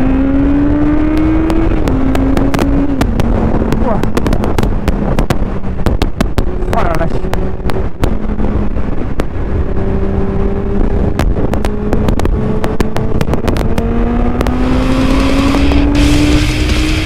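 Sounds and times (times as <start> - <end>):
motorcycle engine revving: 0.0 - 17.0
wind on microphone: 0.0 - 17.0
microphone crackling clicks: 1.1 - 9.4, 10.8 - 16.9.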